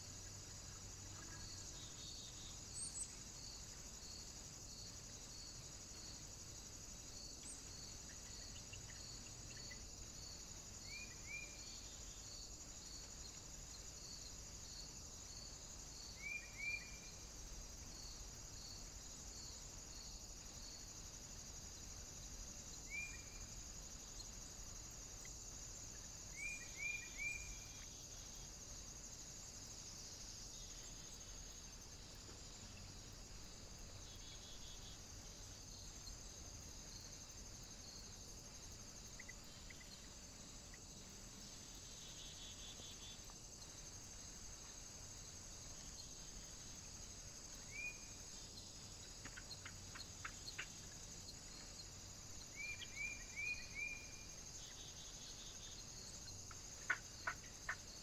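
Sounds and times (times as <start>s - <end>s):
regular insect chirp: 0.0s - 58.0s.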